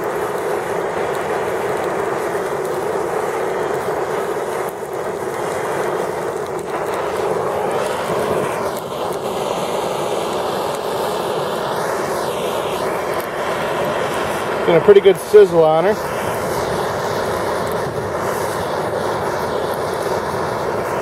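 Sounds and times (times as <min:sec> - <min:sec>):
gas torch hissing: 0:00.0 - 0:21.0.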